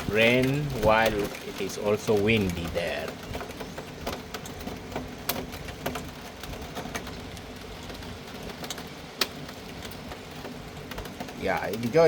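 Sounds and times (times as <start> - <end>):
raindrops tapping on a surface: 0.0 - 12.0
steady rain falling: 0.0 - 12.0.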